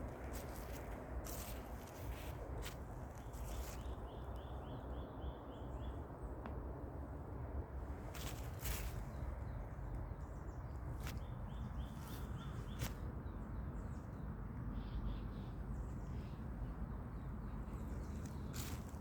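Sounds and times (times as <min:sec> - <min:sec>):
small birds chirping: 0:00.0 - 0:06.3, 0:08.0 - 0:19.0
low outdoor rumble: 0:00.0 - 0:19.0.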